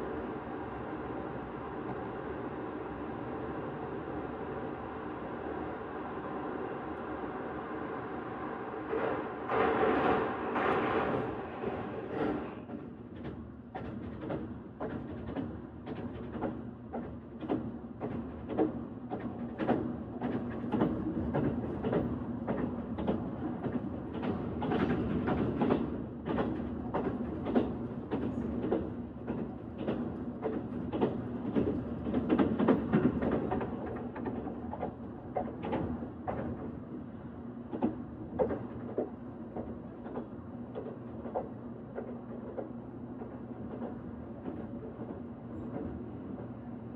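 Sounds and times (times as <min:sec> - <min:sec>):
train low rumble: 0:00.0 - 0:46.9
train wheels clicking on rails: 0:08.8 - 0:46.7.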